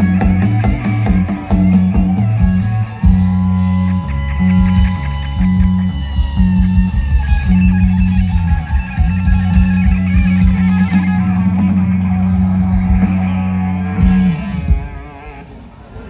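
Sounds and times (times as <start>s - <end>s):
live rock band through loudspeakers: 0.0s - 16.0s.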